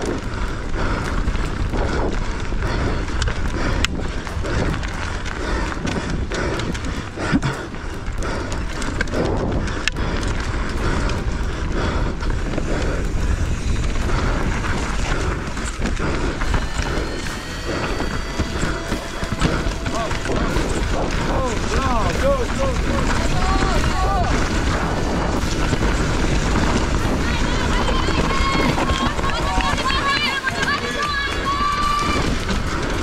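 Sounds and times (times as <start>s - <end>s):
bike knocking and clattering: 0.0s - 33.0s
bike tyres rumbling over dirt and rocks: 0.0s - 33.0s.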